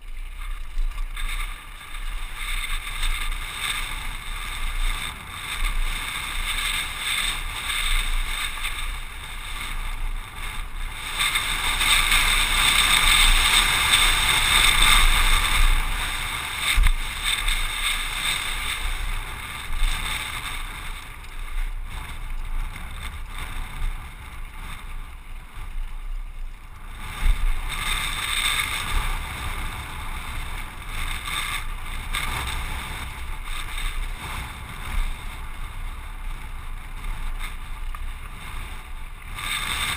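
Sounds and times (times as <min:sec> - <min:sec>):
bike tyres rumbling over rocks: 0:00.0 - 0:39.9
wind rushing over camera: 0:00.0 - 0:39.9.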